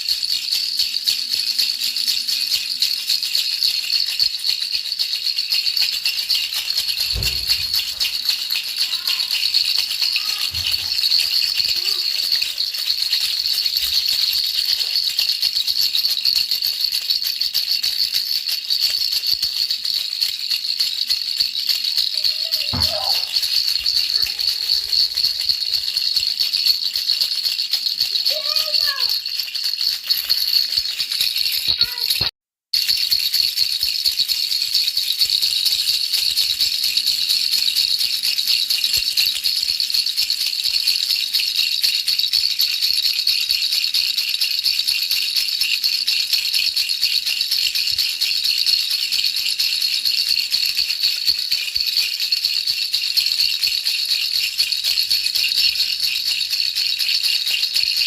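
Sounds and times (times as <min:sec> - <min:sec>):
baby rattle shaken: 0:00.0 - 0:58.0.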